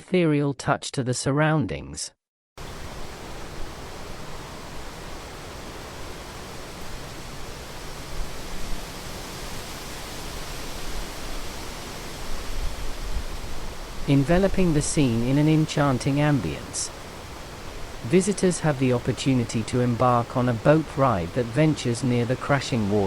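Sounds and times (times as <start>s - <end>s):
waterfall rushing: 2.6s - 23.0s.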